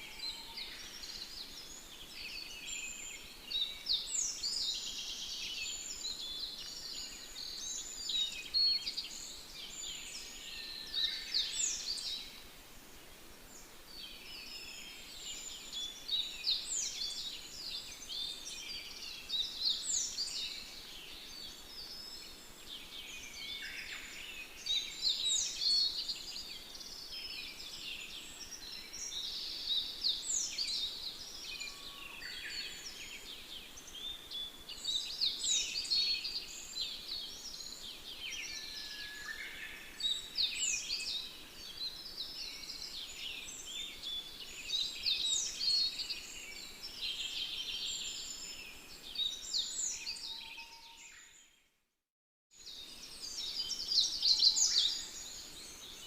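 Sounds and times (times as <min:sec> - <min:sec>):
chorus of bird-like chirps: 0:00.0 - 0:12.5, 0:13.6 - 0:51.6, 0:52.6 - 0:56.0.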